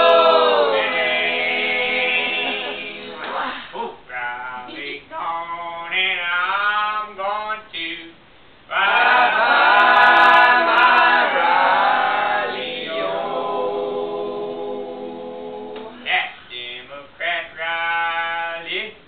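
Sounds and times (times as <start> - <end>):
a cappella singing: 0.0 - 19.0.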